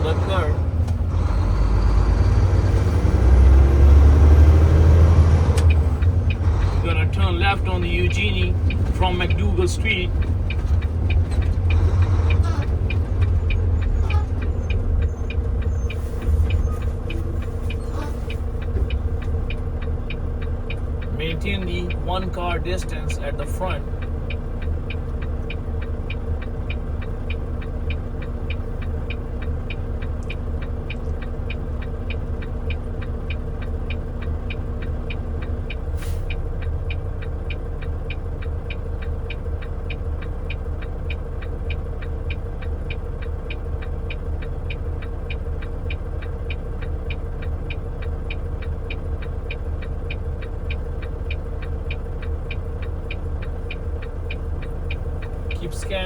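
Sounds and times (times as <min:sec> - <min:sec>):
truck engine rumbling: 0:00.0 - 0:56.0
turn signal ticking: 0:00.0 - 0:56.0.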